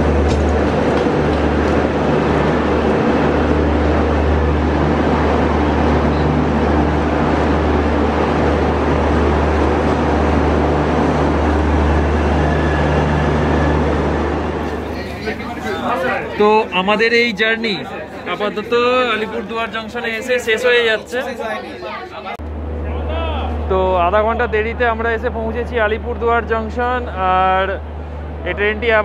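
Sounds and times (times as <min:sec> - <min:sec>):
diesel train low drone: 0:00.0 - 0:21.2, 0:22.4 - 0:29.0.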